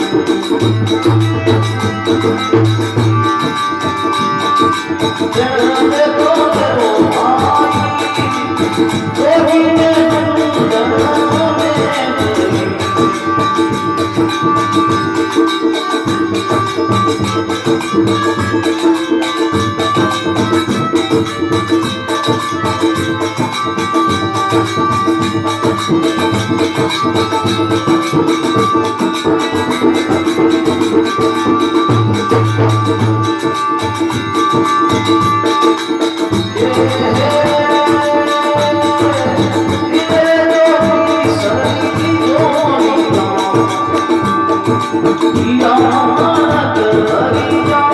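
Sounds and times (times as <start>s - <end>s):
fast rattling percussion: 0.0s - 47.9s
sustained instrumental melody: 0.0s - 47.9s.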